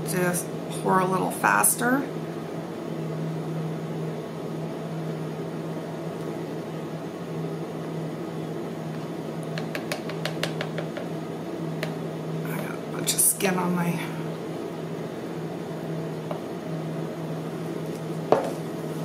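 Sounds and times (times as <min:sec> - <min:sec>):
appliance electrical hum: 0:00.0 - 0:19.0.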